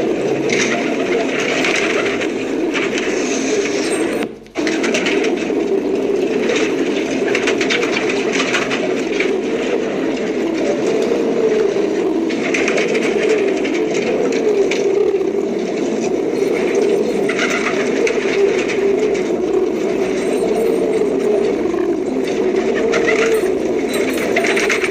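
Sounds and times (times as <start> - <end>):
pigeons cooing: 0.0 - 24.9
scratchy noise: 0.0 - 24.9.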